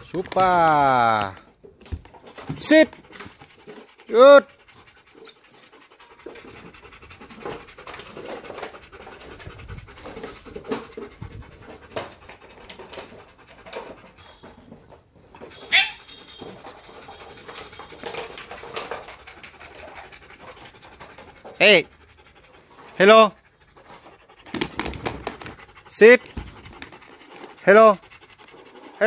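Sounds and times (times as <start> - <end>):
dog panting: 0.1 - 29.0.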